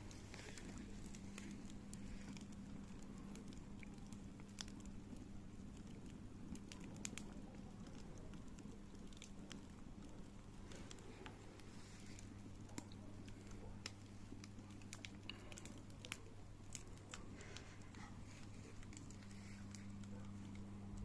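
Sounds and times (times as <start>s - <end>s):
burning wood pops and snaps: 0.0s - 21.0s
campfire crackling: 0.0s - 21.0s
steady low hum: 0.0s - 21.0s.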